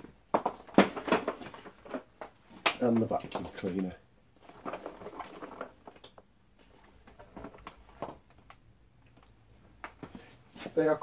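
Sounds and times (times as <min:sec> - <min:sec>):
faint packaging handling noises: 0:00.6 - 0:11.0.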